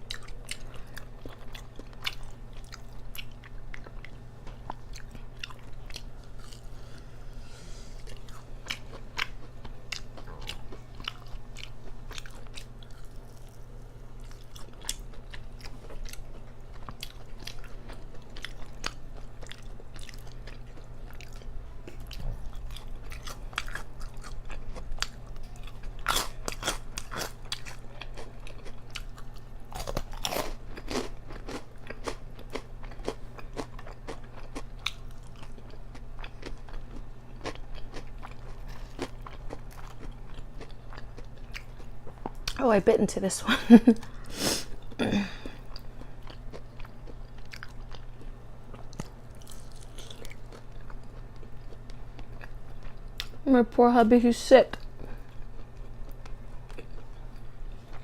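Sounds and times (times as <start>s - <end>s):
chewing crunchy food: 0.0s - 7.2s, 8.0s - 42.6s, 43.8s - 53.5s, 54.7s - 58.0s.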